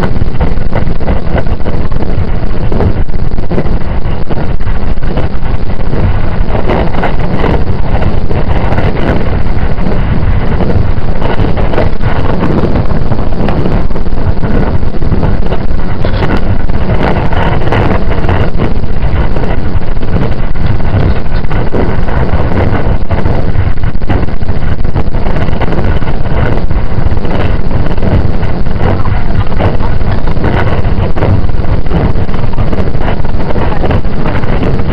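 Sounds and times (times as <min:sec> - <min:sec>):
train wheels rumbling on rail: 0:00.0 - 0:34.9
wind noise: 0:00.0 - 0:34.9.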